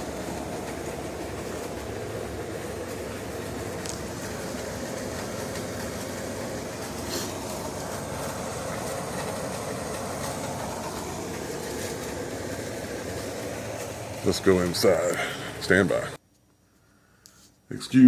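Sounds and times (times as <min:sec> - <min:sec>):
air conditioning unit humming: 0:00.0 - 0:18.0.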